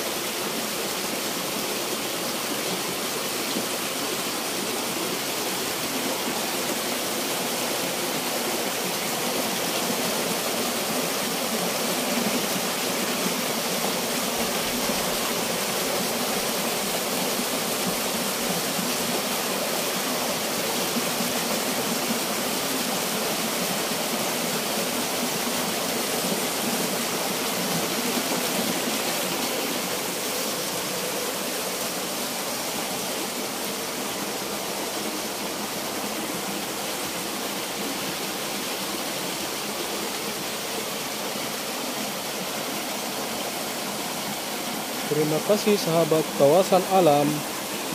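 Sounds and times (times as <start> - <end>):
stream rushing over stones: 0.0 - 47.9.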